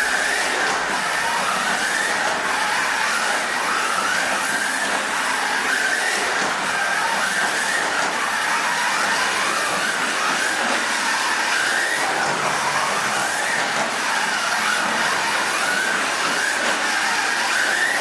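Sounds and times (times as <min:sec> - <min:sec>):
car rattling on plastic track: 0:00.0 - 0:18.0
small electric motor whining: 0:00.0 - 0:18.0.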